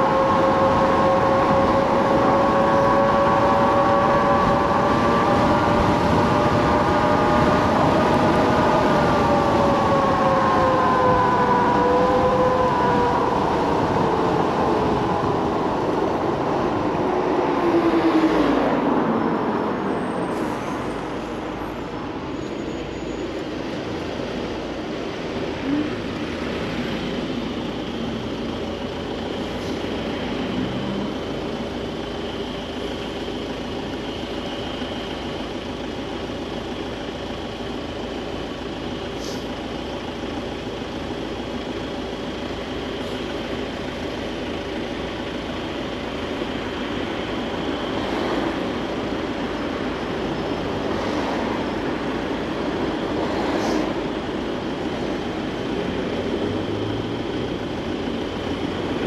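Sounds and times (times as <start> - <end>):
hum of surrounding traffic: 0.0 - 59.0
wind and road noise: 0.0 - 59.0.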